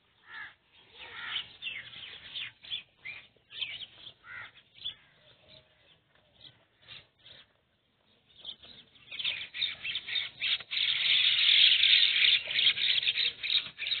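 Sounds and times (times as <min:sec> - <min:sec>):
many birds chattering: 0:00.0 - 0:14.0.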